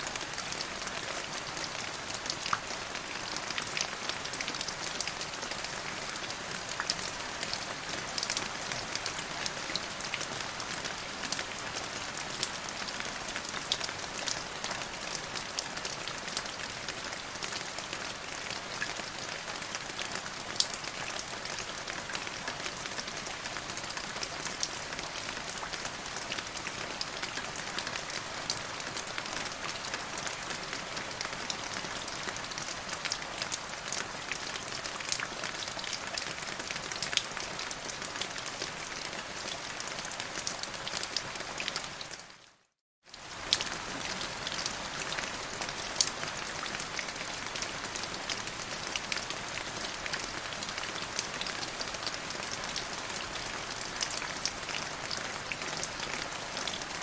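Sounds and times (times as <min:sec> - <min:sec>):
rain on hard surface: 0:00.0 - 0:57.0.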